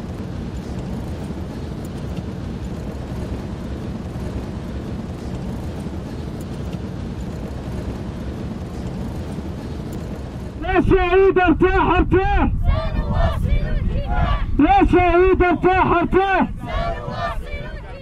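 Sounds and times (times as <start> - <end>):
tyres rolling on road: 0.0 - 11.9, 13.0 - 18.0
vehicle engine rumble: 0.0 - 18.0.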